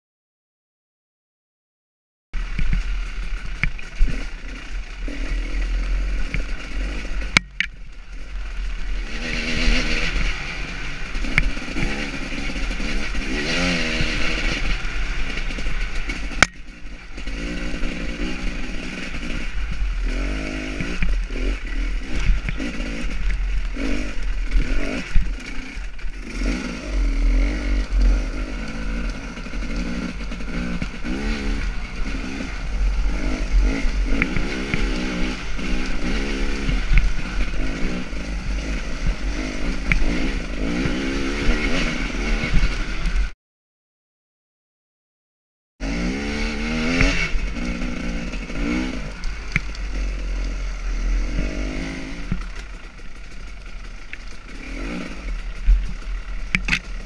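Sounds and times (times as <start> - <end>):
dirt bike engine revving: 2.4 - 43.4, 45.8 - 57.0.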